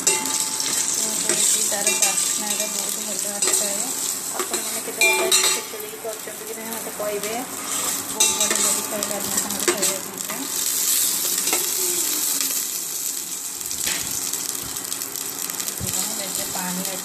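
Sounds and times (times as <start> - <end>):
spices sizzling in hot ghee: 0.0 - 17.0.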